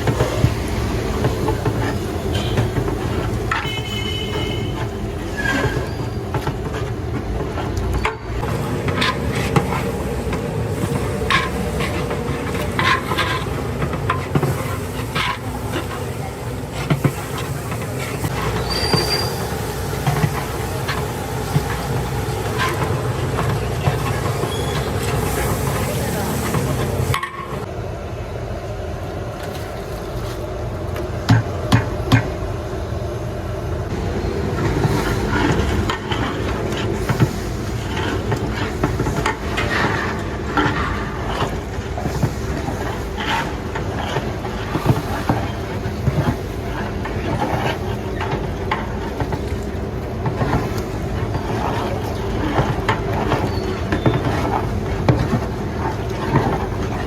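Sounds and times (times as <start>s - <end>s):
metal ladle scraping and knocking pot: 0.0s - 27.7s, 34.6s - 57.0s
steady rumble under pot: 0.0s - 57.0s.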